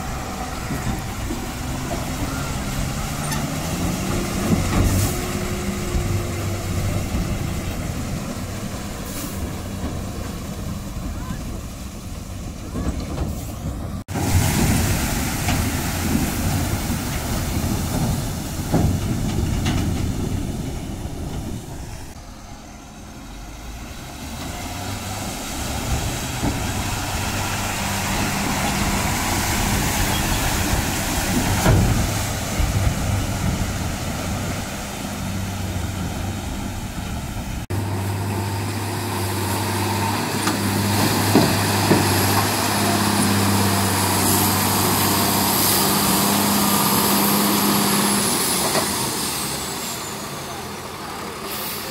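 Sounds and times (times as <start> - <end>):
diesel truck engine hum: 0.0 - 51.9
tyres churning through mud: 0.0 - 51.9.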